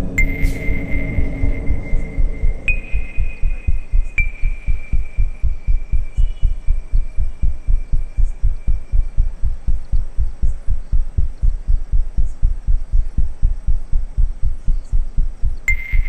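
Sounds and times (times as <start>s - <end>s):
heartbeat double thumps: 0.0s - 16.0s.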